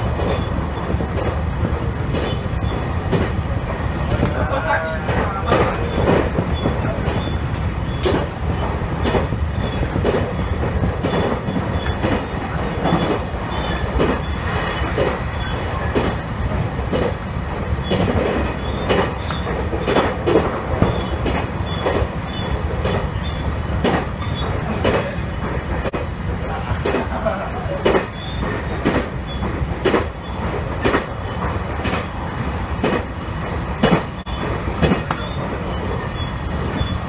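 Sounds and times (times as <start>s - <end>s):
rail-joint clicks: 0.0s - 37.0s
train wheels rumbling on rails: 0.0s - 37.0s.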